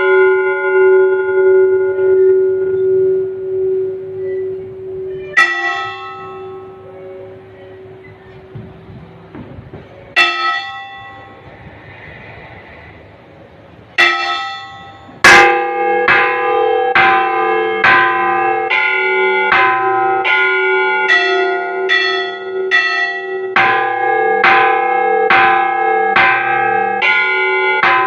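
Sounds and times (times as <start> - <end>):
church bells ringing: 0.0 - 11.6, 13.9 - 28.0.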